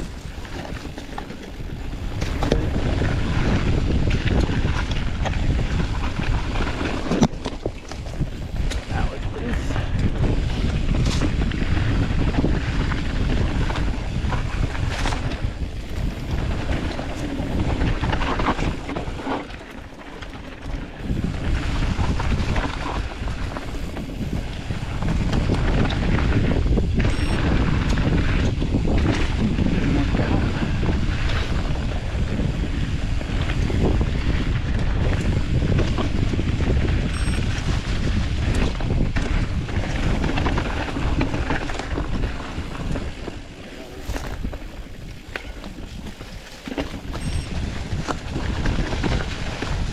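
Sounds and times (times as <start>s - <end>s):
bike rattles and knocks: 0.0s - 49.9s
bike tyres rolling over dirt: 0.0s - 49.9s
wind buffeting microphone: 0.0s - 49.9s.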